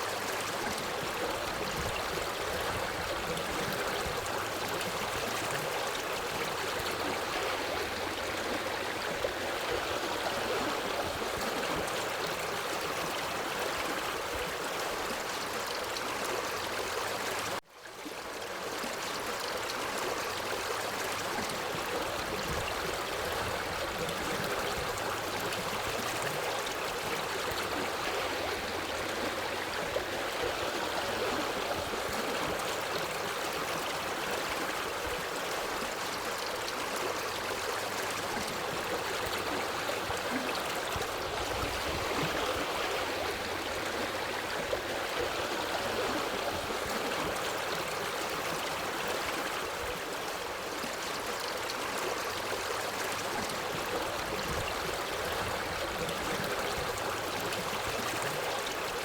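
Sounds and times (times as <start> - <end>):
forest stream flowing: 0.0 - 59.0.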